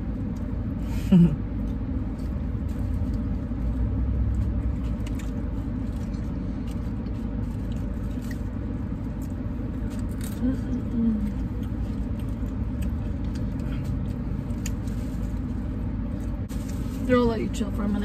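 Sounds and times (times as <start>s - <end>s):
person chewing: 0.0s - 16.9s.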